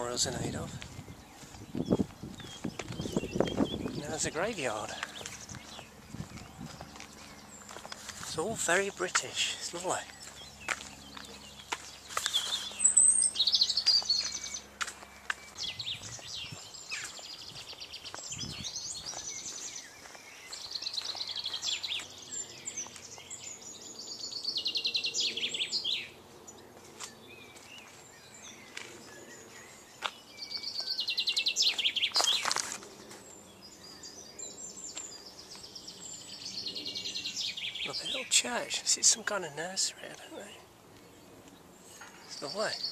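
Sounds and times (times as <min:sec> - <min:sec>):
songbird trilling: 0:00.0 - 0:26.2, 0:27.2 - 0:32.8, 0:33.4 - 0:42.9.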